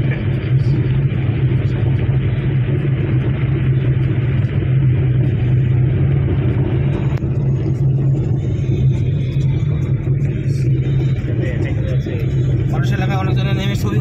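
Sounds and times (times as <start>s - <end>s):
car engine and tyre drone: 0.0s - 14.0s.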